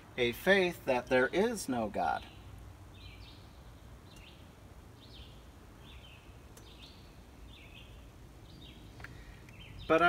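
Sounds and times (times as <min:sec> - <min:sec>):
faint low background rumble: 0:00.0 - 0:10.0.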